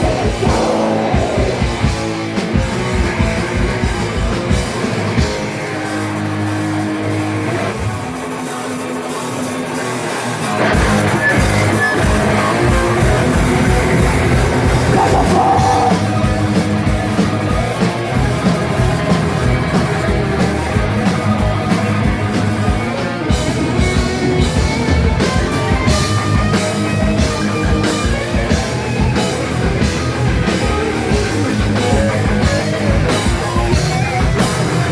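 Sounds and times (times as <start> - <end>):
bass guitar: 0.0 - 8.3, 10.4 - 34.9
drum kit: 0.0 - 9.4, 10.4 - 34.9
electric guitars: 0.0 - 34.9.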